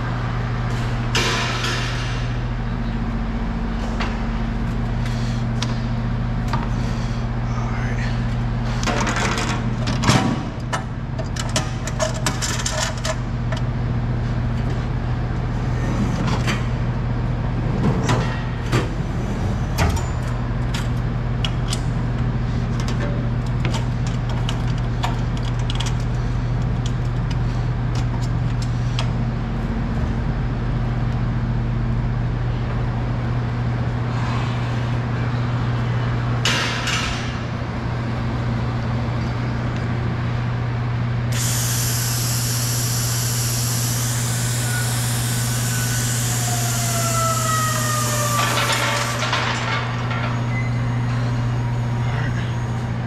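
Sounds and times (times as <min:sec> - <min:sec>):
machinery humming: 0:00.0 - 0:53.0.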